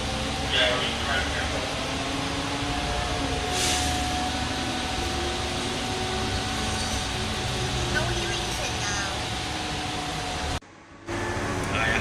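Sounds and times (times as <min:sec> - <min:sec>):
bus interior rumble: 0:00.0 - 0:12.0.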